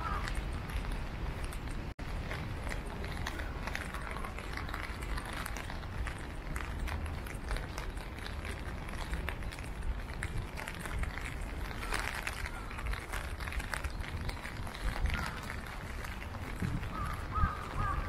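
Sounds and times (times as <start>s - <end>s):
footsteps on wet pavement: 0.0s - 18.0s
rain: 0.0s - 18.0s.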